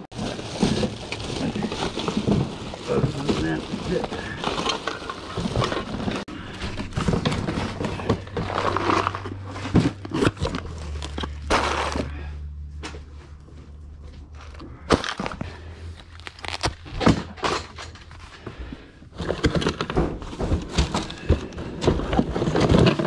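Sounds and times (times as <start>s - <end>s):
things handled in boxes: 0.0s - 23.0s.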